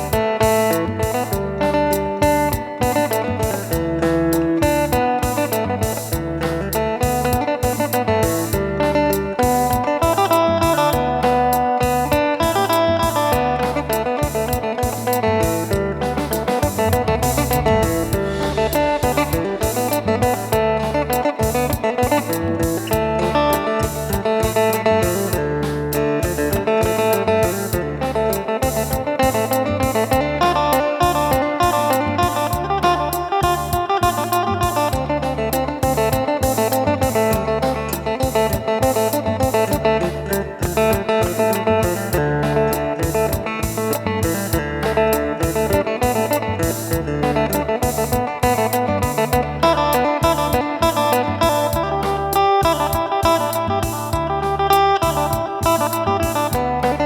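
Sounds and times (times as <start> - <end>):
low bass notes: 0.0 - 57.0
plucked lute melody: 0.0 - 57.0
steady beat: 0.0 - 57.0.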